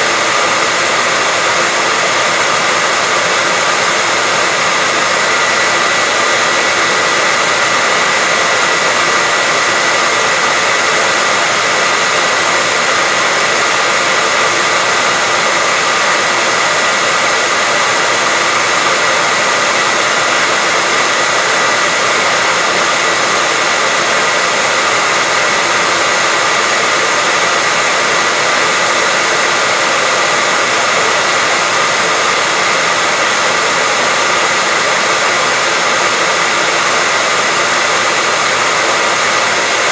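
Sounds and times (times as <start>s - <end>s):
hair dryer blowing air: 0.0s - 39.9s
hair dryer motor whine: 0.0s - 39.9s.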